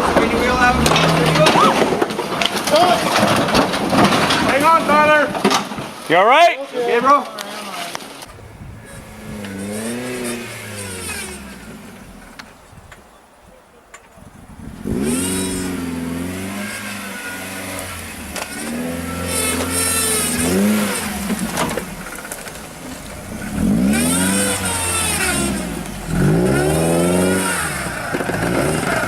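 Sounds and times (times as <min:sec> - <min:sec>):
off-road vehicle engine revving: 0:00.0 - 0:04.8, 0:08.2 - 0:12.9, 0:14.2 - 0:29.0.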